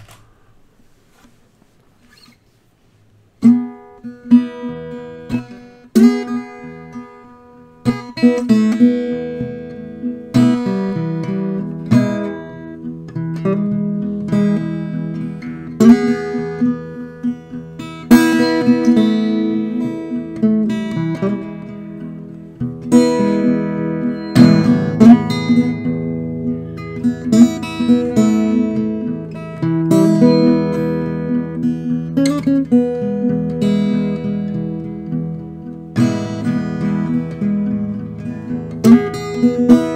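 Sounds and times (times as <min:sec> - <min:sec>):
acoustic guitar playing blues: 0:03.2 - 0:39.9.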